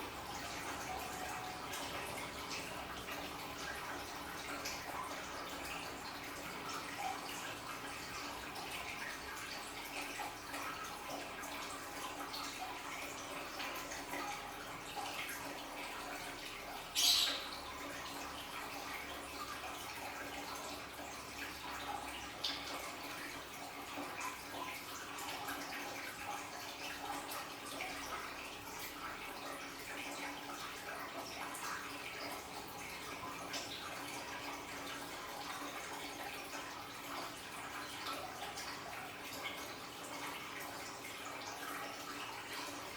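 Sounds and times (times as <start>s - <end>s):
water drips: 0.0s - 42.9s
water trickling and splashing: 0.0s - 42.9s.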